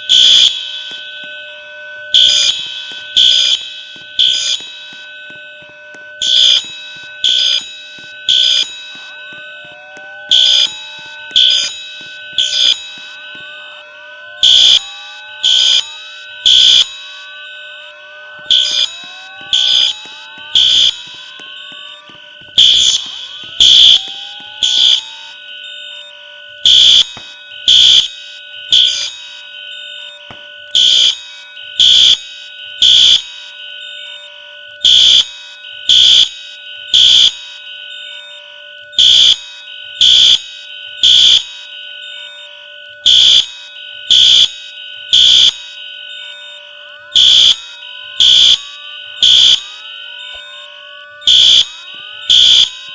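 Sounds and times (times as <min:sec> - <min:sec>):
fire alarm blasts: 0:00.0 - 0:52.9.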